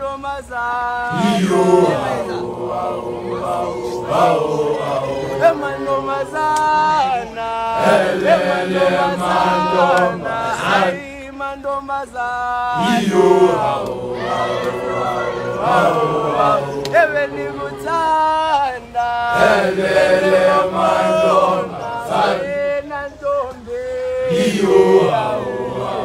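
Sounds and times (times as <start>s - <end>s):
boys singing in unison: 0.0s - 26.0s.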